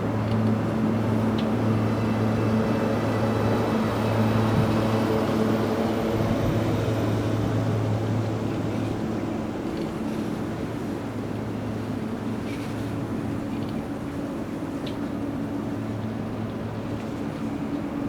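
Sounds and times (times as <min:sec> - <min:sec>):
railway machinery droning: 0:00.0 - 0:14.7.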